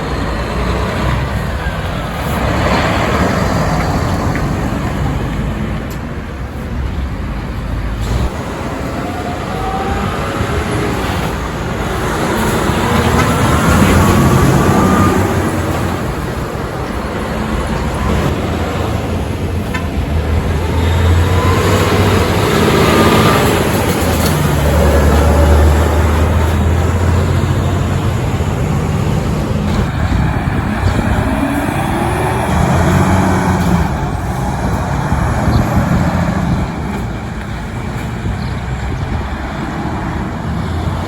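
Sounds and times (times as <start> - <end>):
heavy trucks driving past: 0.0 - 41.0.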